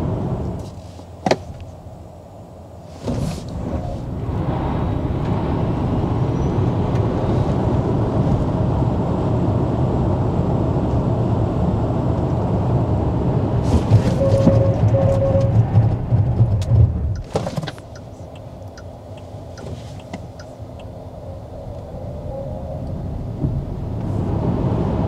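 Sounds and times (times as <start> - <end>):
tyre and road noise: 0.0 - 25.0.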